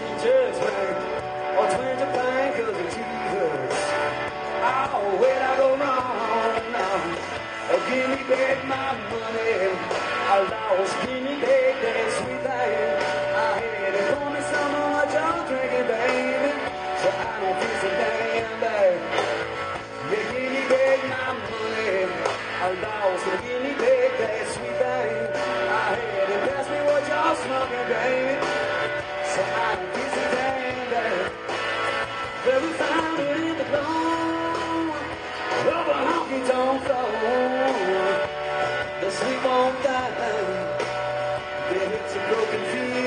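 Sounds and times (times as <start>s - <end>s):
bass guitar: 0.0s - 43.0s
drums: 0.0s - 43.0s
electric guitar lead: 0.0s - 43.0s.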